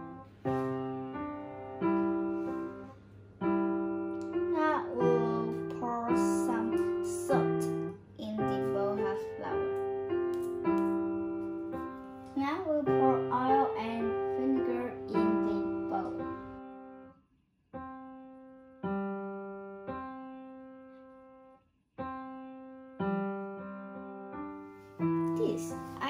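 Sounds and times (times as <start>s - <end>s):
slow piano music: 0.0s - 17.2s, 17.8s - 26.0s.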